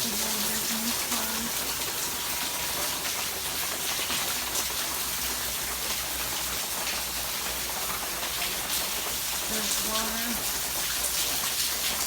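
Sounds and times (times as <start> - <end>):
rain splashing on surfaces: 0.0 - 12.0.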